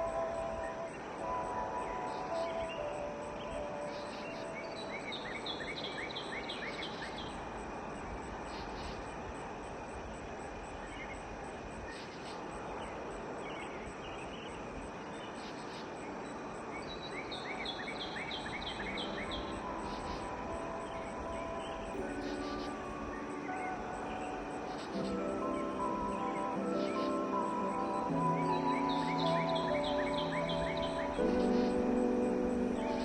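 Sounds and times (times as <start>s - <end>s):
insect-like drone: 0.0s - 33.0s
open-air hiss: 0.0s - 33.0s.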